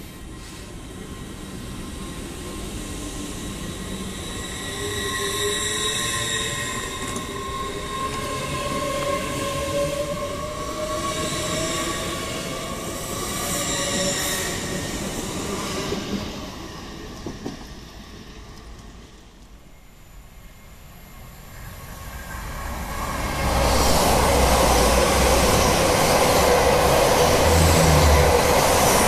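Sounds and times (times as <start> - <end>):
train whine rising in pitch: 0.0 - 16.4, 19.7 - 29.0
train wheel and rail rumble: 0.0 - 29.0.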